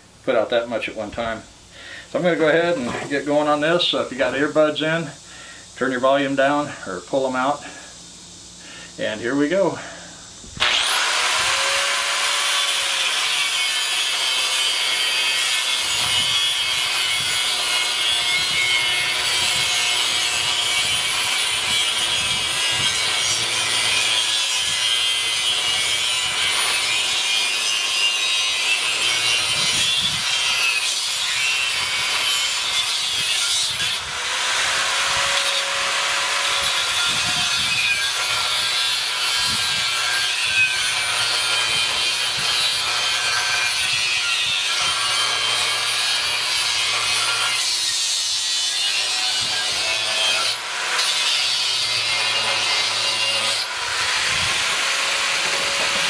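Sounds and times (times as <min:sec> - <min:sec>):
angle grinder cutting steel: 0:10.6 - 0:56.0.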